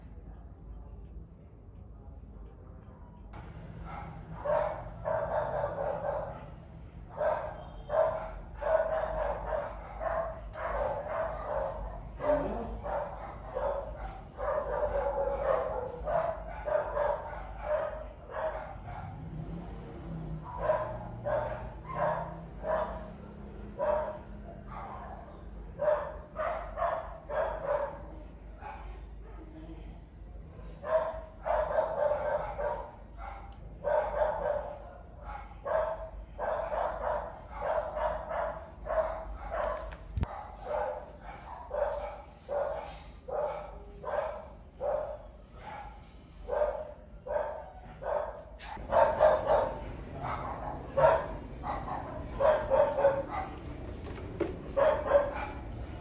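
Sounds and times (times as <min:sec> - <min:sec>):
dog barking: 0:03.8 - 0:19.4, 0:20.4 - 0:29.6, 0:30.6 - 0:56.0.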